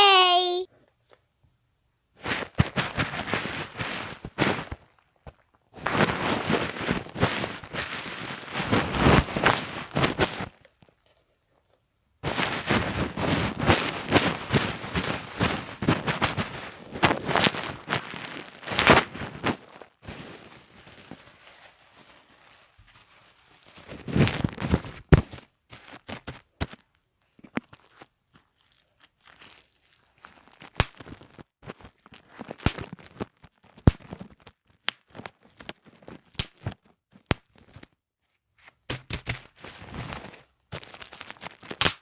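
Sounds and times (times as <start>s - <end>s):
bubble wrap popping: 2.2s - 11.1s, 12.2s - 38.0s, 38.7s - 42.0s
plastic crinkling: 2.2s - 38.0s, 39.0s - 42.0s.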